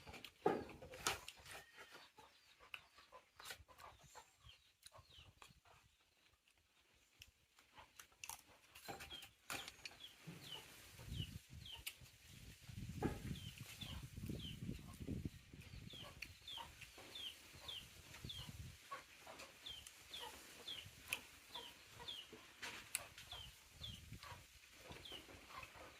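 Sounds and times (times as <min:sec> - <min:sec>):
chicks peeping: 0:00.0 - 0:25.9.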